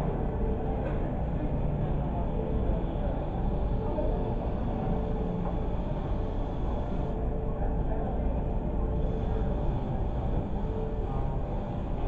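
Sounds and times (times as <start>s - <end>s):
jet engine cabin drone: 0.0s - 12.0s.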